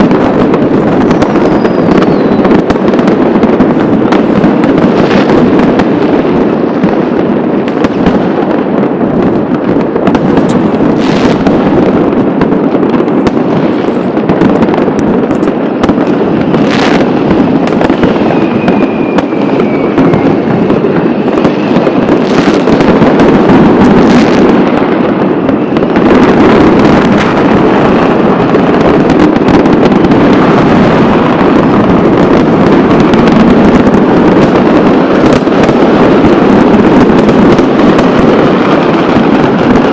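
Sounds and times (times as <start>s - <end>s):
falling firework whistle: 0.0s - 5.8s, 13.2s - 39.9s
fireworks crackling: 0.0s - 39.9s
sharp firework bangs: 0.0s - 39.9s.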